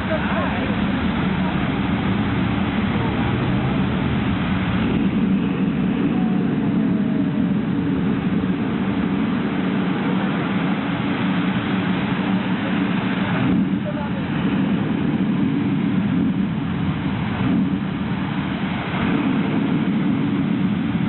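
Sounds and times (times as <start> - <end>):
low rumbling roar: 0.0 - 21.0.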